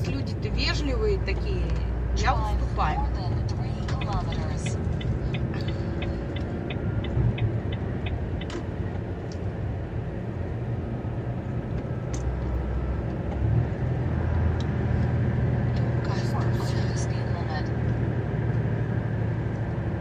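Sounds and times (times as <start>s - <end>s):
road noise: 0.0s - 20.0s
truck diesel engine rumbling: 0.0s - 20.0s
turn signal ticking: 0.0s - 20.0s.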